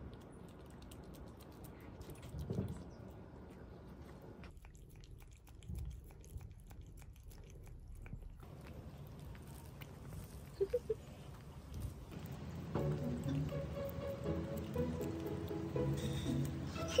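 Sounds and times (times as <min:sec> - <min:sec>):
cats licking wet food: 0:00.0 - 0:17.0.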